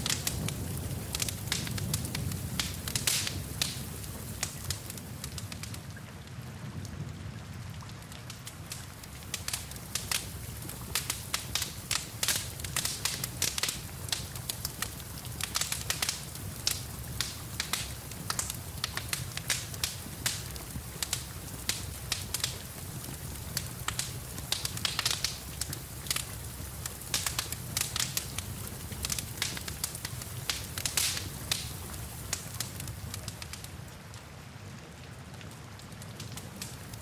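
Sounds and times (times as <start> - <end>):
rain hiss: 0.0 - 37.0
wood fire crackling: 0.0 - 37.0.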